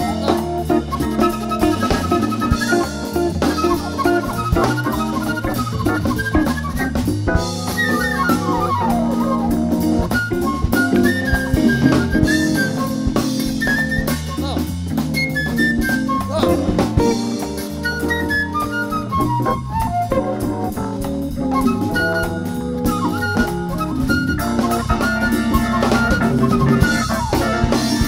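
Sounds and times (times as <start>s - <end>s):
drum kit: 0.0s - 28.0s
organ playing: 0.0s - 28.0s
walking bass line: 0.0s - 28.0s.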